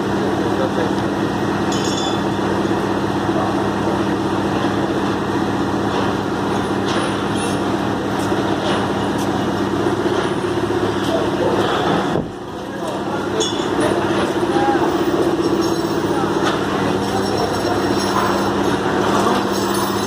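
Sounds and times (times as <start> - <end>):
heavy diesel engine: 0.0 - 20.0.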